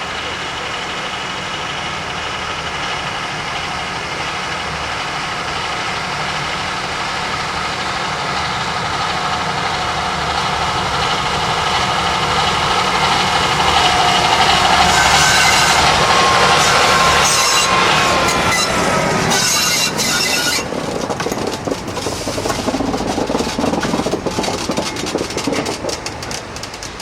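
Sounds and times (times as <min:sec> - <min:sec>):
rail vehicle engine running: 0:00.0 - 0:27.0.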